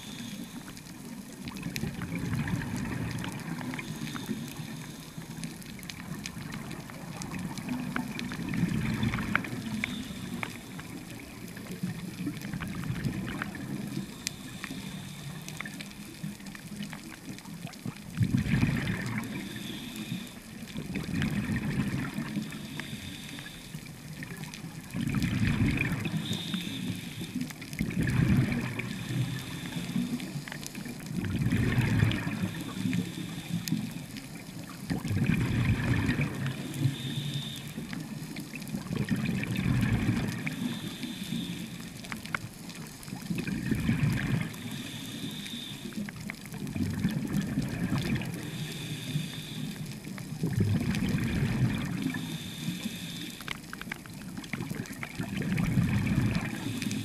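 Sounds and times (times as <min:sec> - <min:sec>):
steady watery hiss: 0:00.0 - 0:57.0
bubbles gurgling underwater: 0:00.9 - 0:23.1, 0:23.9 - 0:44.9, 0:45.8 - 0:48.8, 0:49.7 - 0:52.6, 0:53.5 - 0:57.0.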